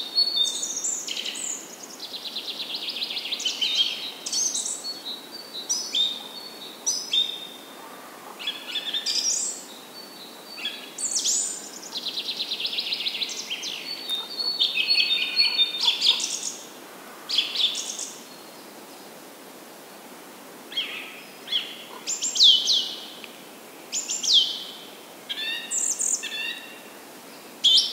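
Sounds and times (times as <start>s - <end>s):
songbirds singing and chirping: 0.0s - 19.4s, 20.7s - 27.9s.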